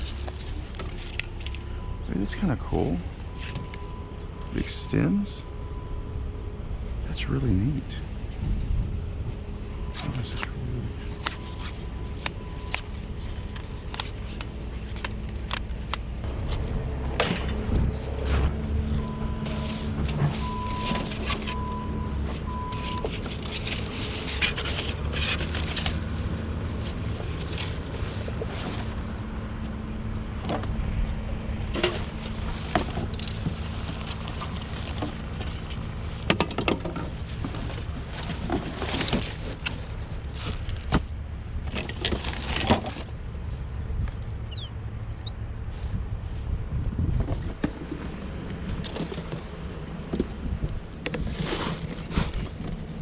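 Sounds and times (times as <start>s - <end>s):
steady low rumble: 0.0s - 51.4s.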